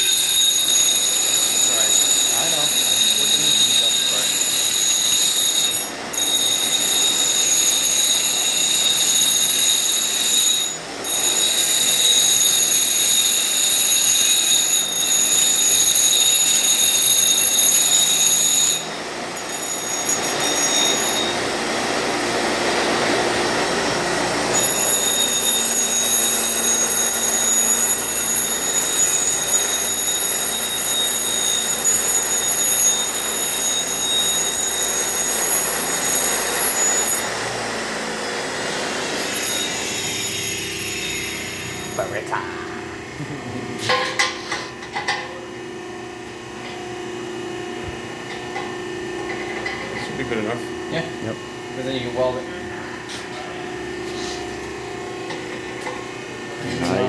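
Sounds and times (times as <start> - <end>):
power tool high-pitched whine: 0.0 - 44.7, 45.5 - 57.0.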